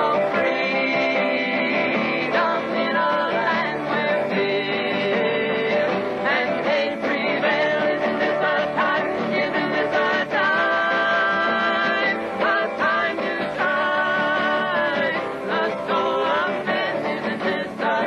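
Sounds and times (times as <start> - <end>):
acoustic guitar: 0.0 - 18.0
voices singing together: 0.0 - 18.0.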